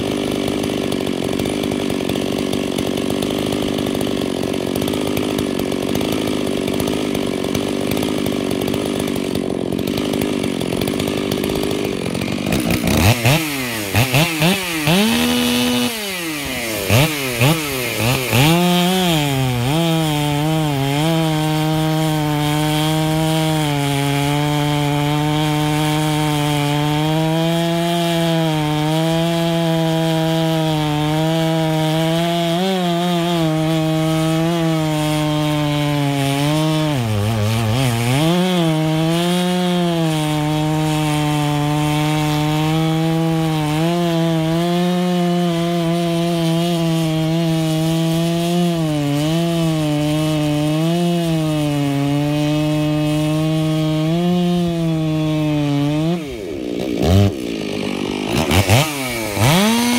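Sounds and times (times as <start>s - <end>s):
chainsaw cutting through log: 0.0s - 59.9s
chainsaw running: 0.0s - 59.9s.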